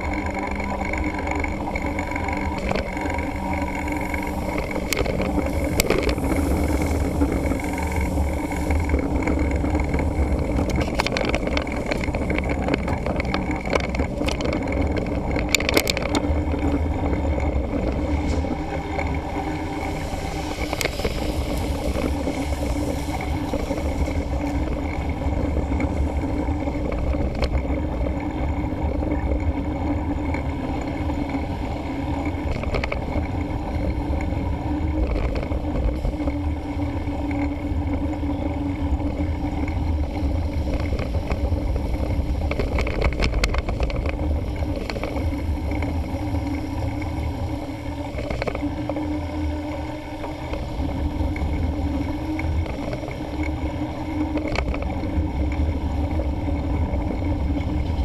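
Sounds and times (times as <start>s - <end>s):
bike clicks and rattles: 0.0s - 58.0s
wind and tyre rumble: 0.0s - 58.0s.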